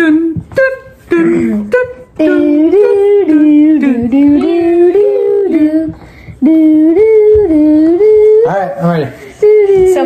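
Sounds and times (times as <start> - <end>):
person humming: 0.0 - 10.0.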